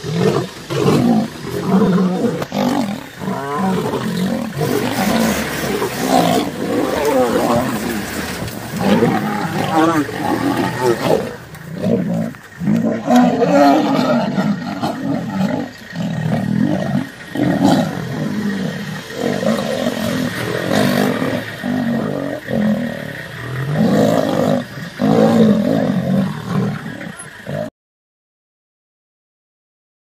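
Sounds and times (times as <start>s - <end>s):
lions growling and roaring: 0.0s - 27.7s.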